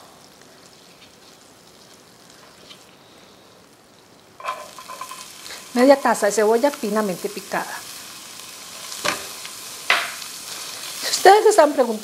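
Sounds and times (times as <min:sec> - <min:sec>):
margarine sizzling in a pot: 0:00.0 - 0:12.0.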